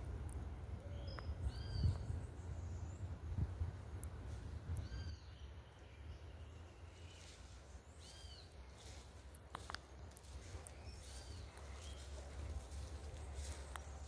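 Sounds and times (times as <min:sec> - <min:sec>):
bird calls: 0:00.8 - 0:03.2, 0:04.7 - 0:14.0.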